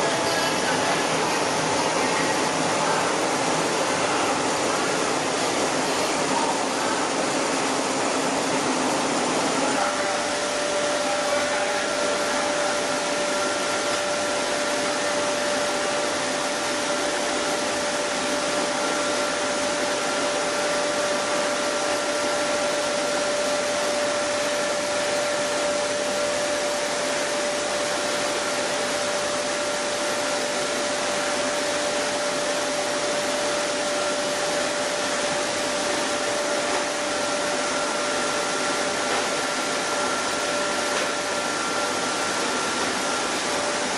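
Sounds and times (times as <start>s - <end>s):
constant machine whine: 0.0s - 43.9s
milling machinery running: 0.0s - 43.9s.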